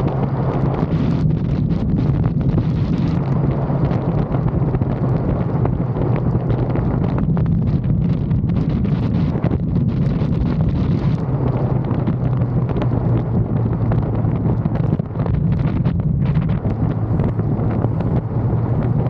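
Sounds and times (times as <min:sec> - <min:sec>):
motorcycle engine humming: 0:00.0 - 0:19.0
wind buffeting microphone: 0:00.0 - 0:19.0.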